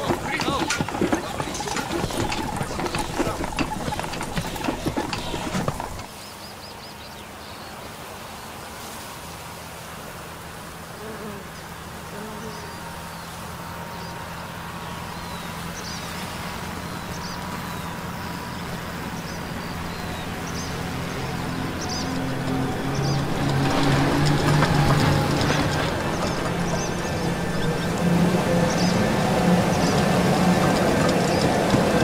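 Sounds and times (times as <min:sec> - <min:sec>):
small birds chirping: 0:00.0 - 0:08.0, 0:11.1 - 0:32.0.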